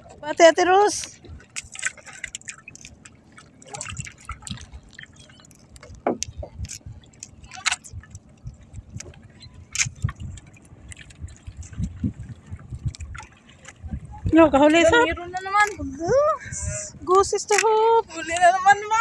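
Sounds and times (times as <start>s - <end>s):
water dripping and splashing: 0.0s - 19.0s
knocks and clicks on hull: 0.1s - 16.2s, 17.1s - 19.0s.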